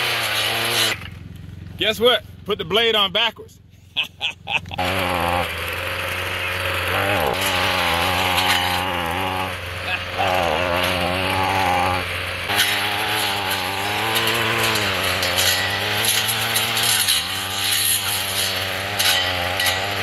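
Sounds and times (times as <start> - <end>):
weed eater engine at high revs: 0.0 - 1.9, 4.0 - 20.0
blade shredding leafy brush: 0.0 - 2.0, 4.2 - 20.0.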